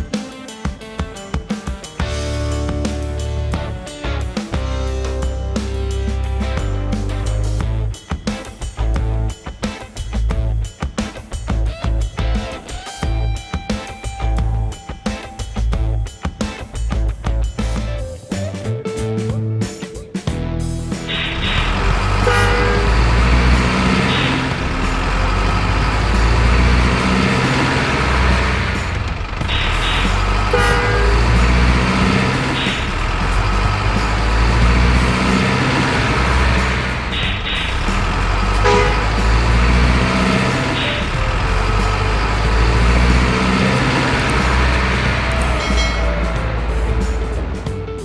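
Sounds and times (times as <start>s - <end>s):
diesel truck engine rumbling: 2.0s - 48.0s.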